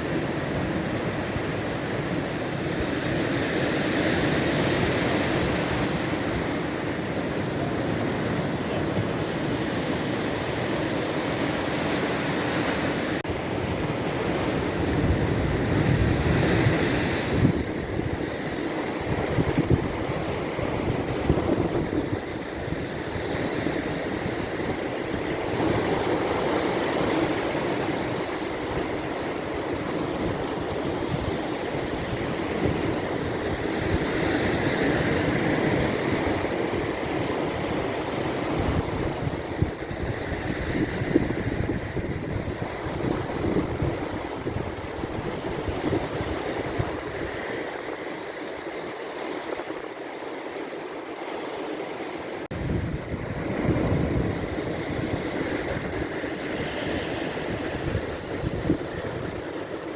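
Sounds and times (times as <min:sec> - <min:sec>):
wind rumbling on microphone: 0:00.0 - 0:48.7, 0:52.5 - 0:59.9
surf washing onto shore: 0:00.0 - 0:59.9.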